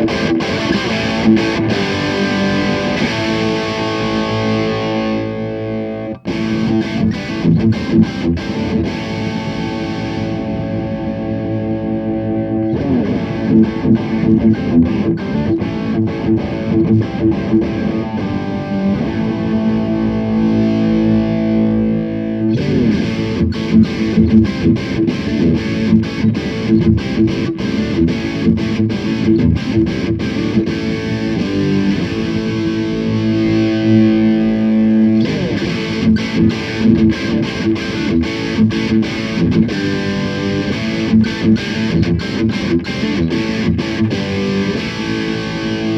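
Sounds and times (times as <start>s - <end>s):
distorted electric guitar riffs: 0.0s - 45.9s.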